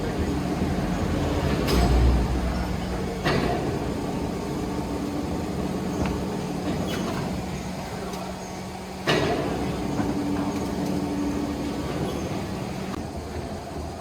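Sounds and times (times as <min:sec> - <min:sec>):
machinery motor hum: 0:00.0 - 0:14.0.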